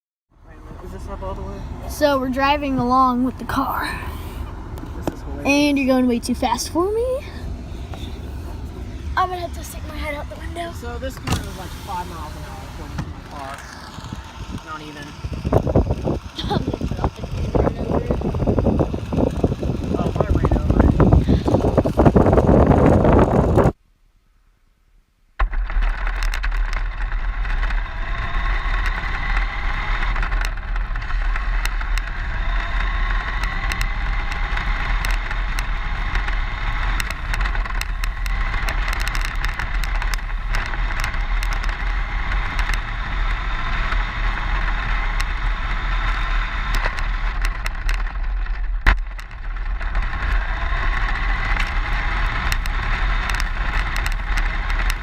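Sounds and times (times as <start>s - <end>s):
low rumble: 0.3s - 23.8s, 25.4s - 55.0s
electric motor and gears whine: 0.4s - 23.8s, 25.4s - 55.0s
tyres crackling on rough asphalt: 0.4s - 23.8s, 25.4s - 55.0s.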